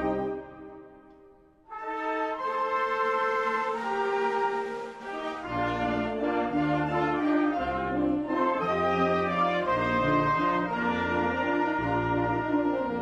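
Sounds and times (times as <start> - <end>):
deep bass brass: 0.0 - 1.0, 1.7 - 13.0
brass band playing slow melody: 0.0 - 13.0.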